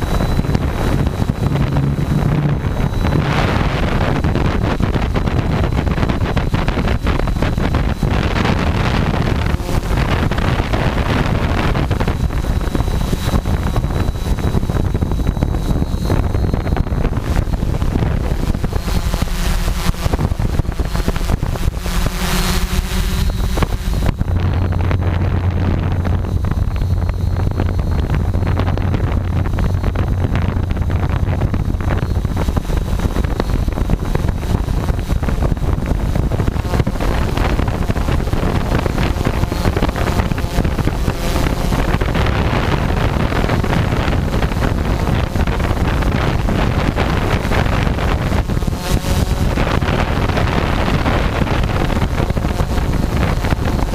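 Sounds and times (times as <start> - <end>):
drone motors humming: 0.0 - 53.9
wind buffeting microphone: 0.0 - 53.9.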